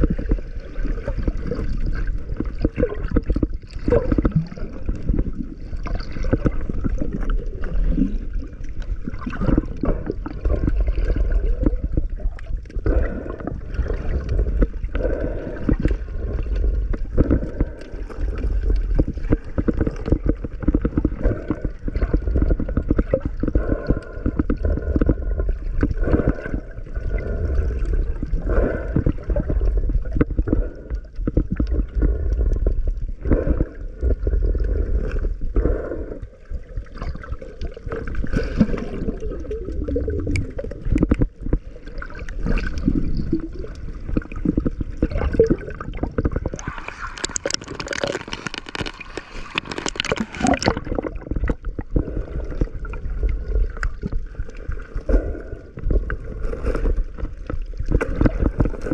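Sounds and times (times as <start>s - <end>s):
underwater gurgling and churning: 0.0s - 58.9s.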